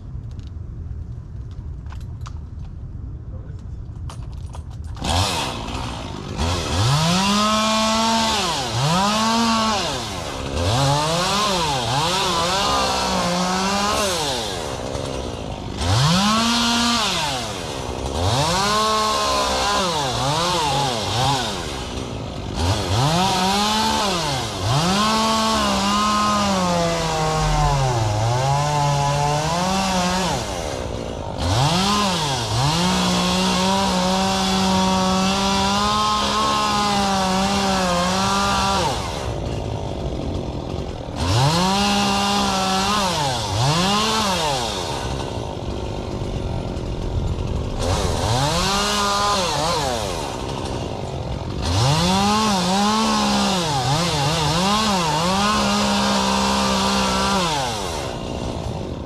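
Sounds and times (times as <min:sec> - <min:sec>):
chainsaw revving: 0:05.0 - 0:59.0.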